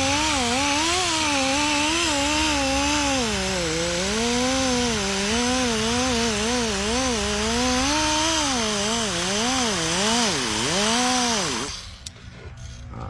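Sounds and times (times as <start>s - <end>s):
power tool grinding: 0.0s - 12.2s.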